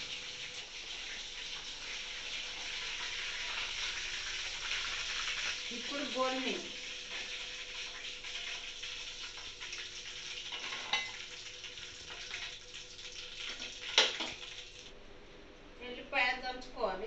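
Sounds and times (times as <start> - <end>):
chicken deep-frying in oil: 0.0 - 14.9.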